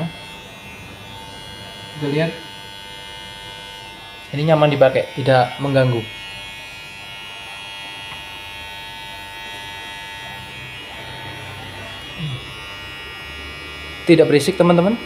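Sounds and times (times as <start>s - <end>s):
hair clipper running: 0.0s - 15.0s.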